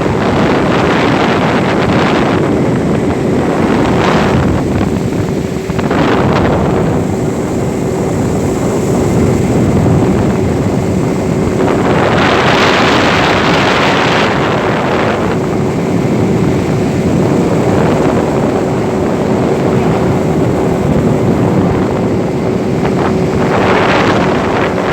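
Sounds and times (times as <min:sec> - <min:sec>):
boat engine running: 0:00.0 - 0:24.9
wind buffeting microphone: 0:00.0 - 0:24.9.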